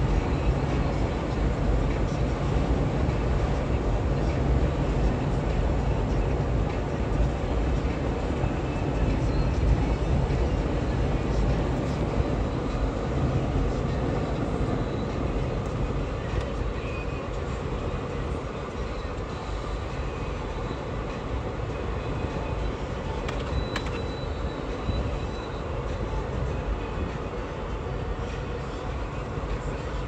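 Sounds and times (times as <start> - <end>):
car cabin road noise: 0.0 - 30.0.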